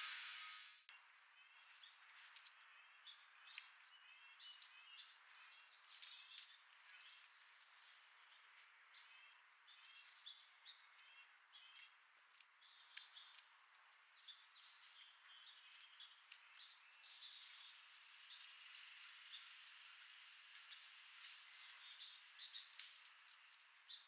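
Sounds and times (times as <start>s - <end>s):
small birds chirping: 0.0s - 24.0s
steady outdoor hiss: 0.0s - 24.0s.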